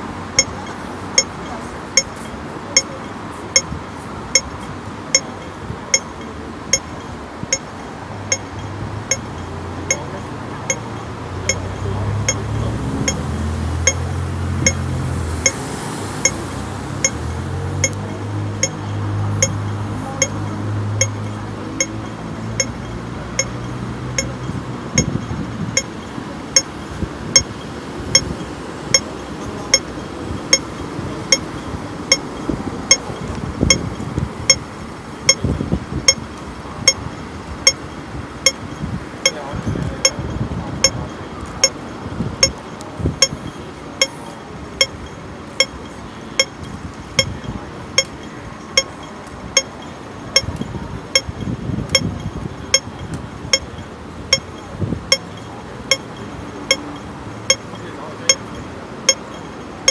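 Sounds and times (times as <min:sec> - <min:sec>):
street traffic rumble: 0:00.0 - 0:59.9
vehicle engine hum: 0:00.0 - 0:59.9
crossing signal ticking: 0:00.3 - 0:59.9.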